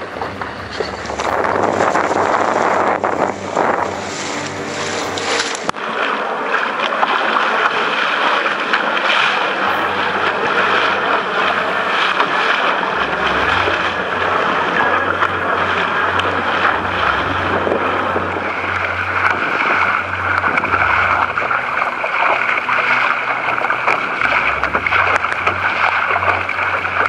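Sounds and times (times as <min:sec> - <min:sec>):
wind buffeting microphone: 0:00.0 - 0:05.8, 0:08.8 - 0:27.0
water splashing along hull: 0:00.0 - 0:27.0.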